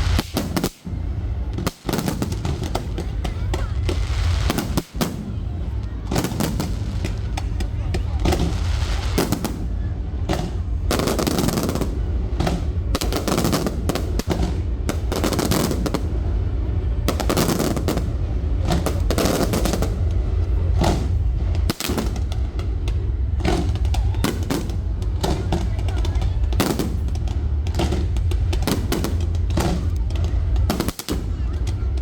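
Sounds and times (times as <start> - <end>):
fireworks bangs and crackling: 0.0 - 32.0
low rumble: 0.0 - 32.0.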